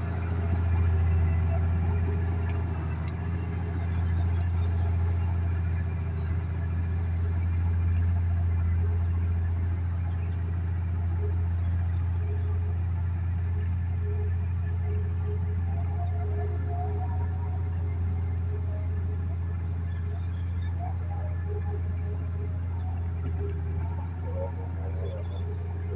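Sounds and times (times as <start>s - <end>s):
diesel engine running steadily: 0.0s - 25.9s.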